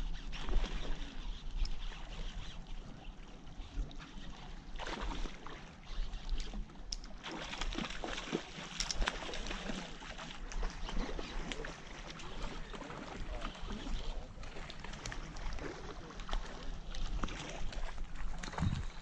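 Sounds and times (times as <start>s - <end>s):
fish splashing in water: 3.7s - 19.0s.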